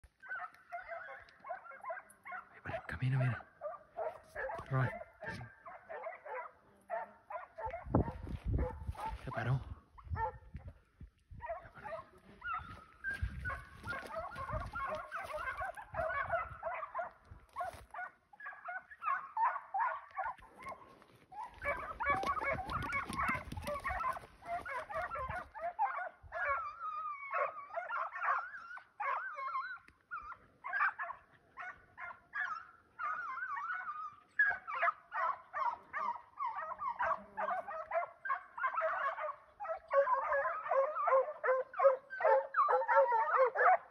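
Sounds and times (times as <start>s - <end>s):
pack of hounds baying: 0.0s - 10.7s, 11.4s - 43.9s.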